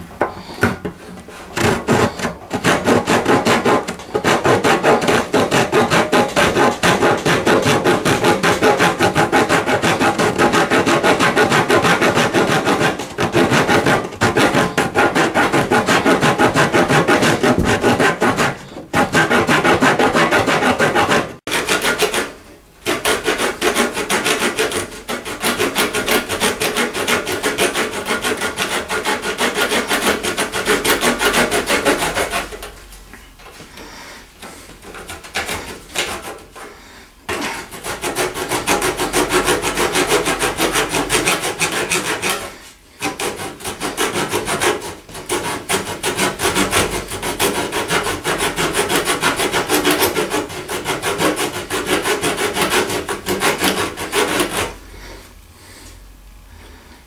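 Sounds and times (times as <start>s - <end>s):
saw cutting wood: 1.3s - 32.7s, 37.3s - 54.8s.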